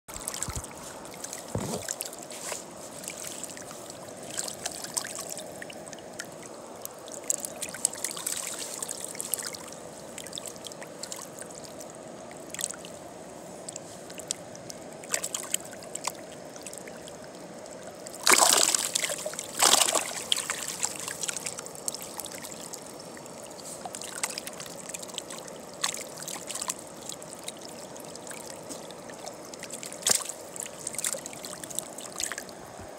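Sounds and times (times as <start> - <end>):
river water running: 0.1 - 32.9.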